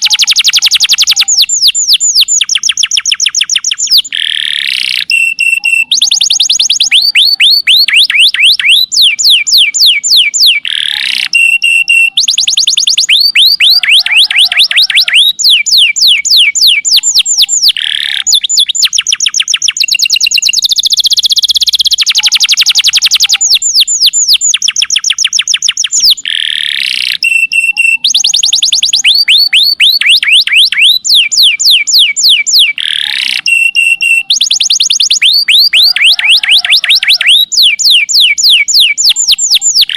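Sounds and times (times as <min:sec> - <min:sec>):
canary singing trills: 0:00.0 - 0:39.9
whistled bird tones: 0:00.0 - 0:39.9.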